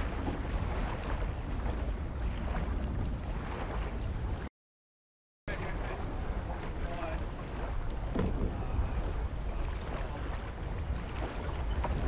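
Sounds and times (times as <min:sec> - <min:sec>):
water lapping against boats: 0:00.0 - 0:04.5, 0:05.5 - 0:12.0
wind buffeting microphone: 0:00.0 - 0:04.5, 0:05.7 - 0:12.0.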